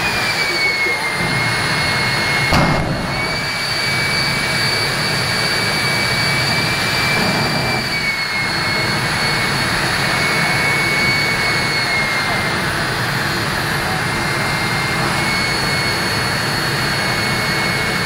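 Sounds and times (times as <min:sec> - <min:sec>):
jet engine roaring: 0:00.0 - 0:18.0.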